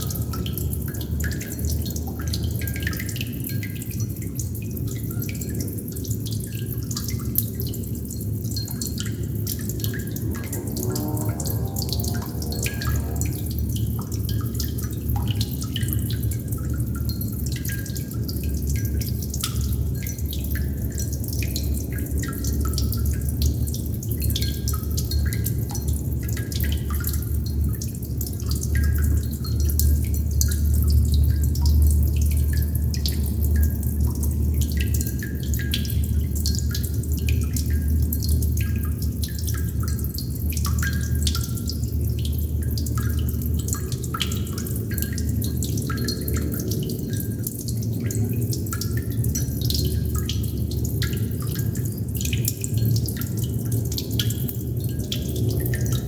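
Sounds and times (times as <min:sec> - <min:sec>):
running water rumble: 0:00.0 - 0:56.0
water droplets dripping: 0:00.0 - 0:56.0.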